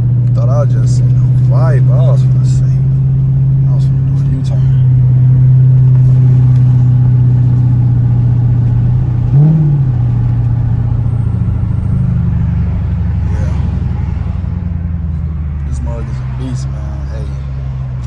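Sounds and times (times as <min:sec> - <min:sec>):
car engine droning from cabin: 0:00.0 - 0:18.0.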